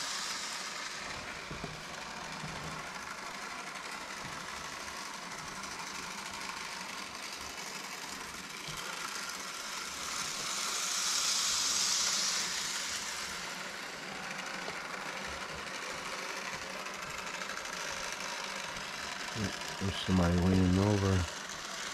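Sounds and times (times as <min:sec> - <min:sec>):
model train motor whirring: 0:00.0 - 0:21.9.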